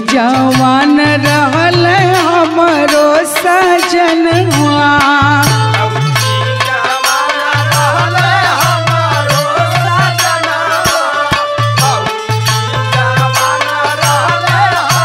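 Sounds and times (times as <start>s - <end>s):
percussion strokes: 0.0s - 15.0s
wavering folk melody: 0.1s - 15.0s.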